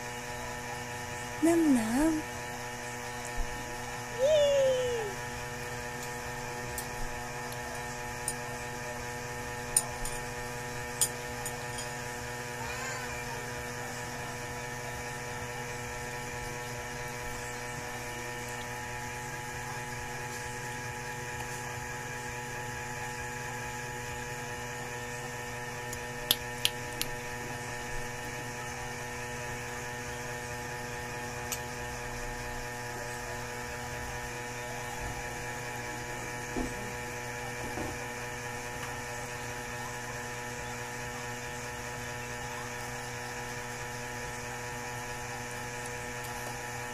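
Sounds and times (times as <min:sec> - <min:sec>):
steady electrical hum: 0:00.0 - 0:46.9.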